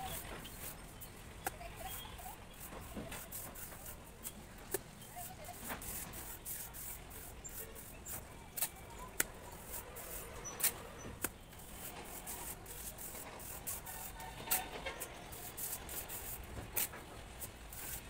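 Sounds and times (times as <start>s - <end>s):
trowel scraping plaster: 1.7s - 18.0s.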